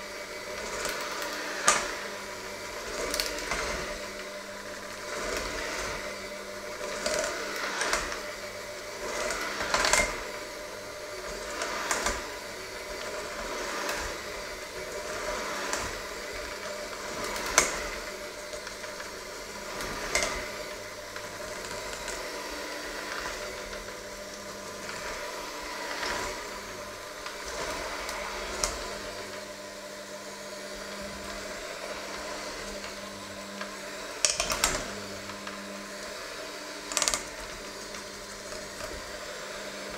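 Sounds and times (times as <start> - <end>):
electric hand mixer running: 0.0 - 39.9.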